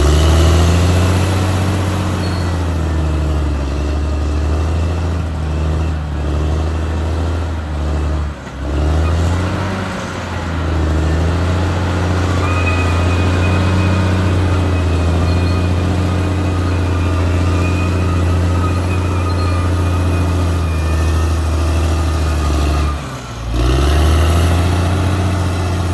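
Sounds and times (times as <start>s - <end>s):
bulldozer diesel engine: 0.0s - 25.9s.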